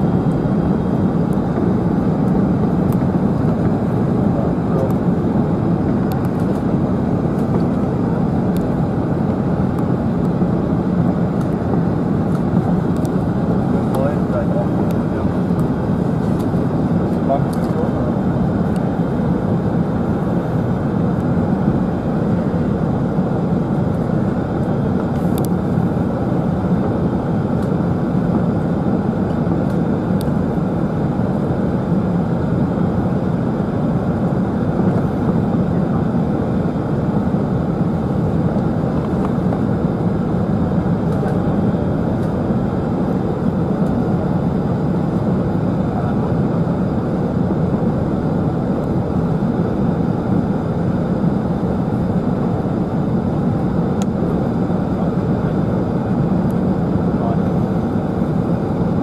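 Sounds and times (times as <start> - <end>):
jet engine rumble in cabin: 0.0 - 59.0.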